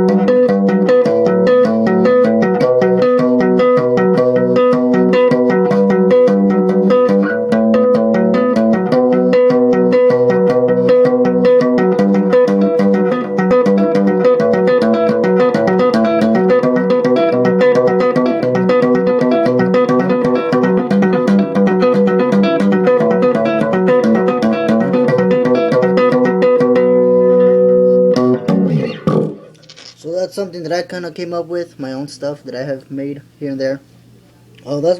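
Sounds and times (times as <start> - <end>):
electric bass tapping: 0.0 - 30.2.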